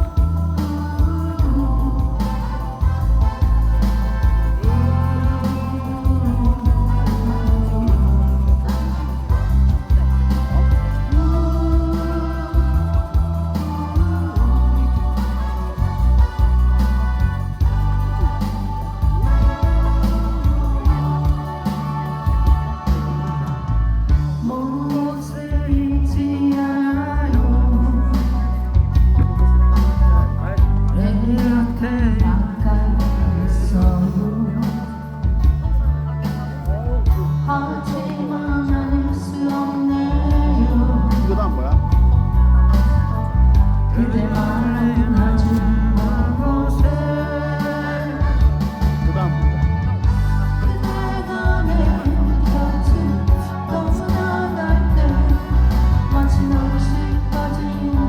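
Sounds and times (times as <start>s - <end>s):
instrumental accompaniment: 0.0s - 58.0s
person singing: 0.0s - 58.0s.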